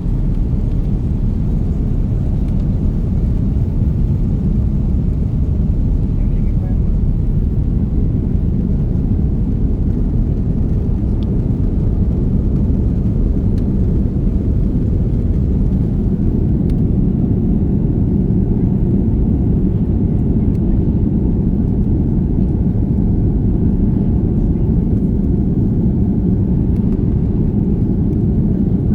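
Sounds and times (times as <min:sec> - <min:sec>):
jet engines rumbling: 0:00.0 - 0:28.9.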